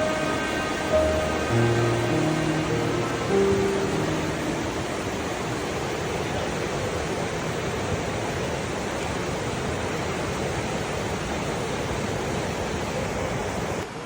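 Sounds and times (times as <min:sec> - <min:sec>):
flood water rushing: 0:00.0 - 0:14.0.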